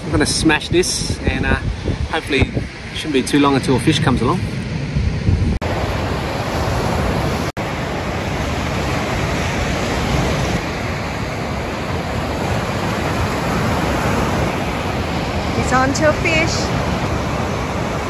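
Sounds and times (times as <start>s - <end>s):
ocean surf breaking: 0.0s - 18.0s
wind on microphone: 0.0s - 18.0s.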